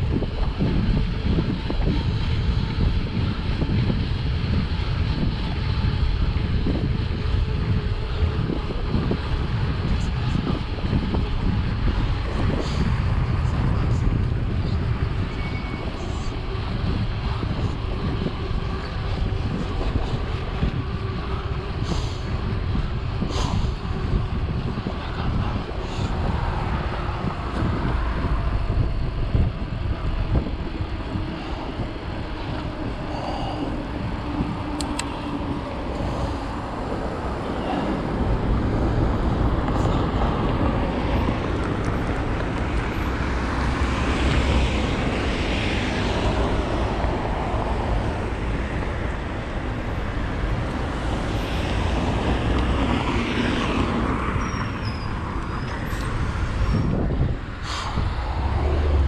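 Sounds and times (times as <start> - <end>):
low rumble of road vehicles: 0.0 - 59.0.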